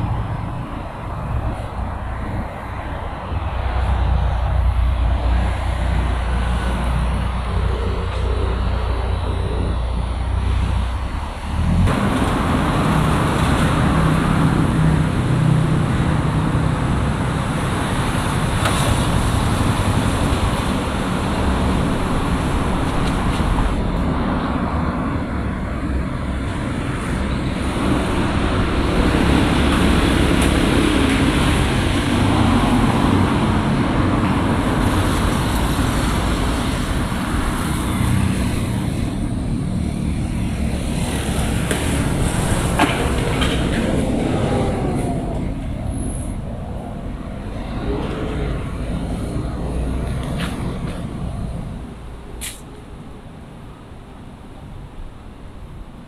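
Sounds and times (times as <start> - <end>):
city street traffic: 0.0 - 56.0.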